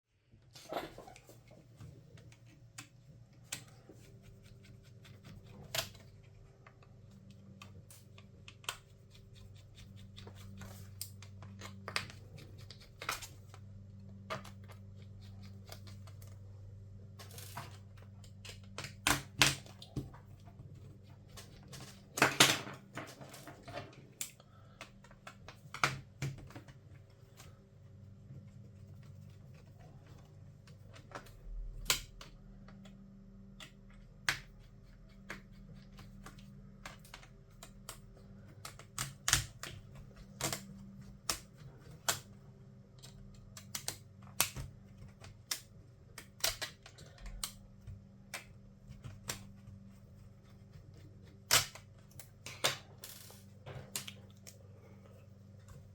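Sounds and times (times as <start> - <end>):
faint low hum: 0.1 - 55.9.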